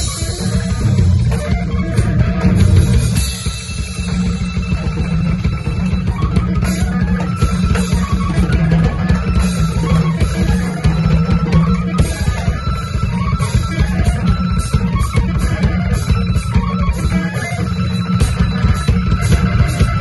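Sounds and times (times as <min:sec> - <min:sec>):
drum and cymbal hits: 0:00.0 - 0:20.0
electric guitar: 0:00.0 - 0:20.0.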